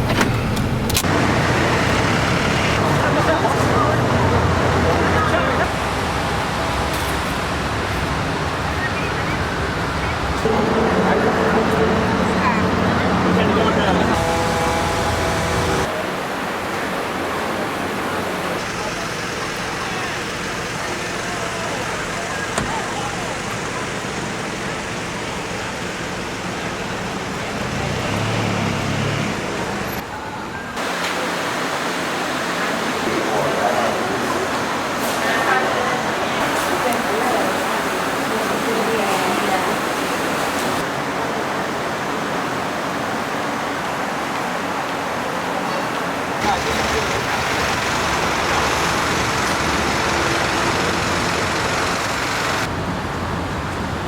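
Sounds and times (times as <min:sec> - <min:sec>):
city road traffic: 0:00.0 - 0:54.0
vehicle engine hum: 0:00.0 - 0:54.0.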